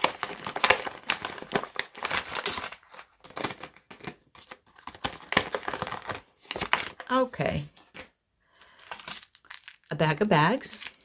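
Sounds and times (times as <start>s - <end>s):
plastic pouch rustling: 0.0s - 11.0s.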